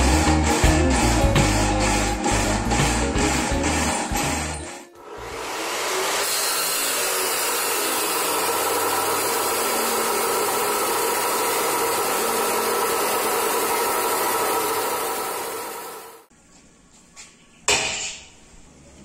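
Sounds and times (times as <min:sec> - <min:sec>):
chop saw grinding through steel: 0:00.0 - 0:16.3.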